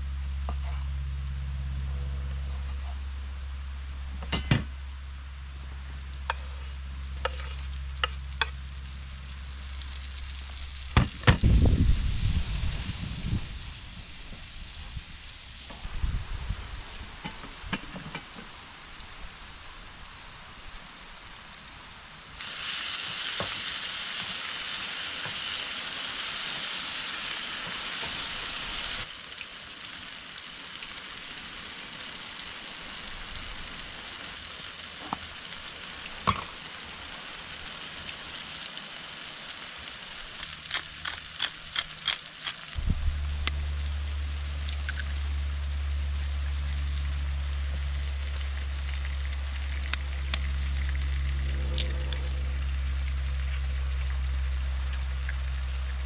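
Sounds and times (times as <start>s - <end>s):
vegetables sizzling in a pan: 0.0s - 11.3s, 12.0s - 56.0s.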